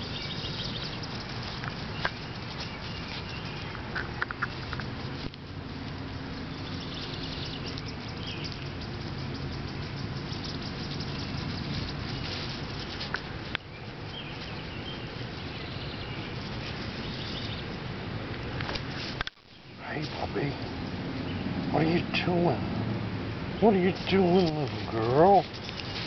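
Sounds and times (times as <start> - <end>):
low rumble and hiss: 0.0 - 26.0.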